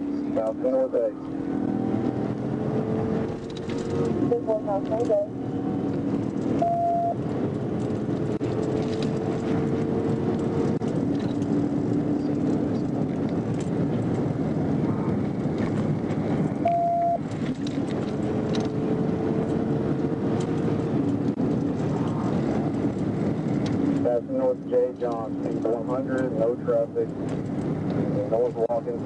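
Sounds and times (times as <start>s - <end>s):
car engine at high speed: 0.0s - 29.0s
tyre and wind noise: 1.1s - 24.2s, 27.0s - 28.4s.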